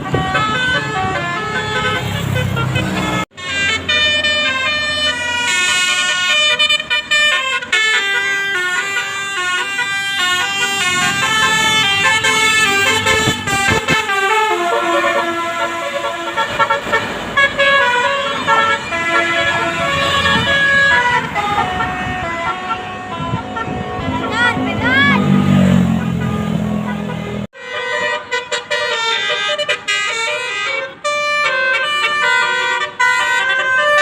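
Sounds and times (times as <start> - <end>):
bus horn playing a melody: 0.0 - 34.0.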